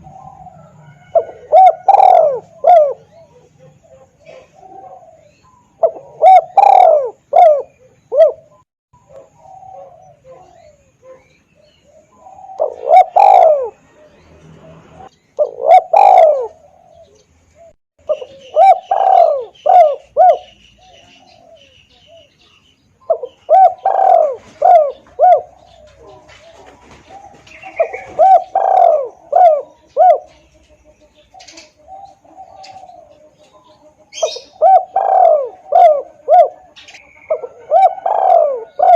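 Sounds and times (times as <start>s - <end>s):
dove cooing: 0.0s - 22.4s, 23.0s - 38.9s.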